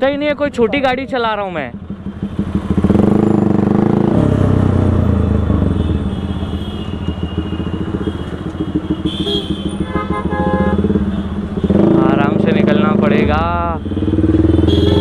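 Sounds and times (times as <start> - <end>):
motorcycle engine with loud exhaust: 0.0 - 15.0.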